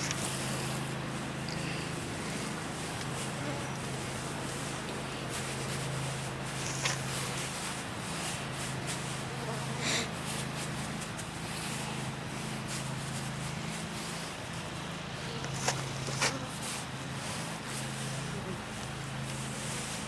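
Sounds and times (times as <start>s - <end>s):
mesh bags rustling: 0.0s - 20.0s
steady low hum: 0.0s - 20.0s.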